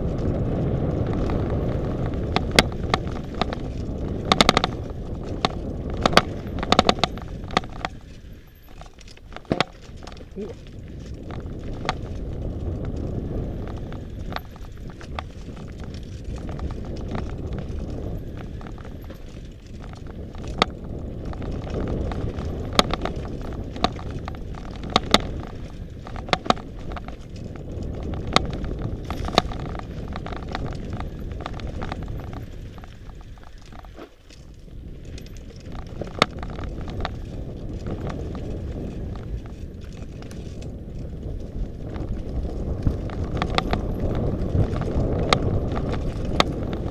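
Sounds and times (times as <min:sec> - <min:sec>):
bike clacking over rocks: 0:00.0 - 0:46.9
low rumble of bike ride: 0:00.0 - 0:46.9.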